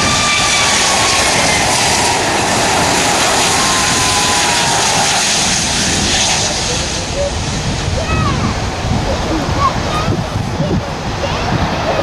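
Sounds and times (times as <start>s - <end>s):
jet engines roaring with whine: 0.0s - 12.0s.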